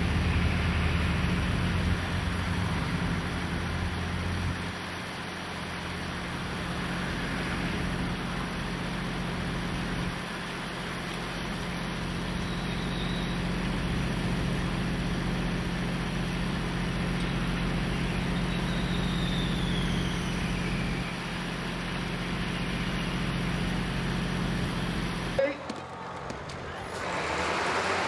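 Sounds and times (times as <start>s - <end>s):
road noise: 0.0s - 28.0s
truck engines humming: 0.0s - 28.0s.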